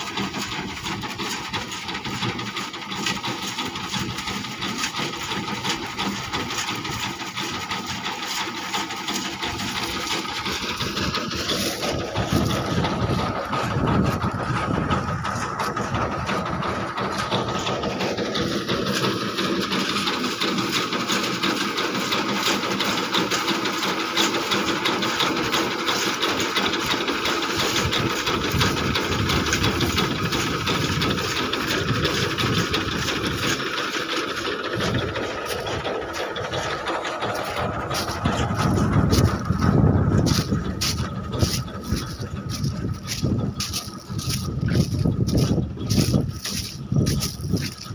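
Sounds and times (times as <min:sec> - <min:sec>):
reaper mechanical chatter: 0:00.0 - 0:47.9
tractor diesel engine: 0:00.0 - 0:47.9.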